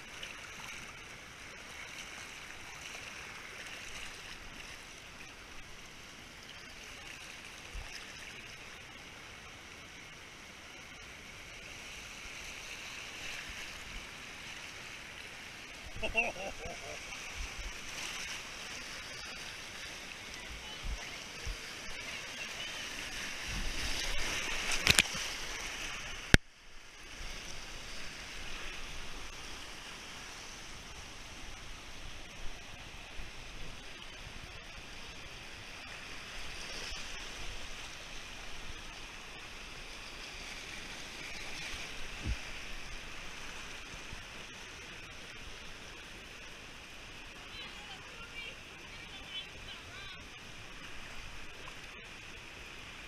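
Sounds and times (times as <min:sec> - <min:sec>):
whitewater rushing and splashing: 0:00.0 - 0:53.0.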